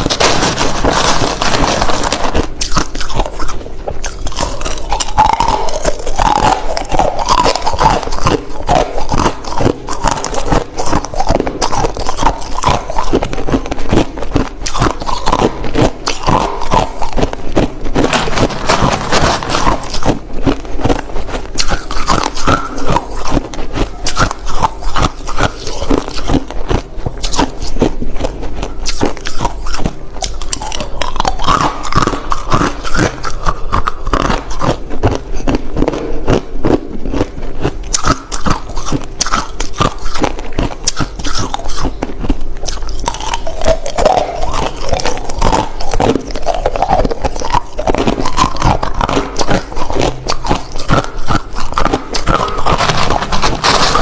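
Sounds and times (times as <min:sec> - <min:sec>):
person chewing crushed ice: 0:00.0 - 0:54.0.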